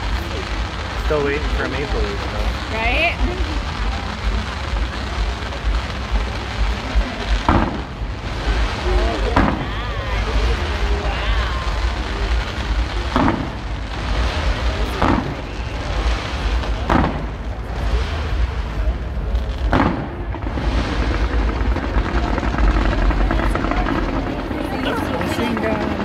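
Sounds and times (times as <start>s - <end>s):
fireworks shells booming: 0.0s - 26.0s
steady low rumble: 0.0s - 26.0s.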